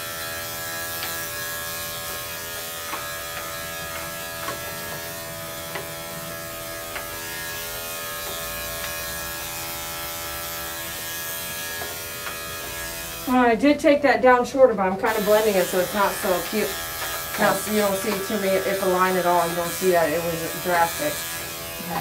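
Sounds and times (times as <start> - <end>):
electric clippers buzzing: 0.0 - 22.0.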